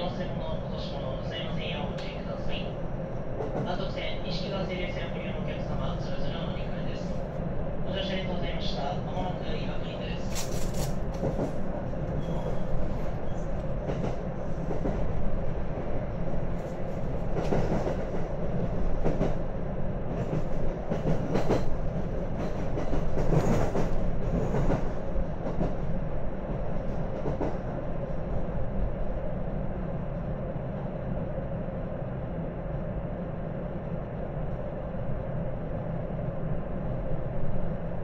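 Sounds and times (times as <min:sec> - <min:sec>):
train wheels and motors rumbling: 0:00.0 - 0:38.0.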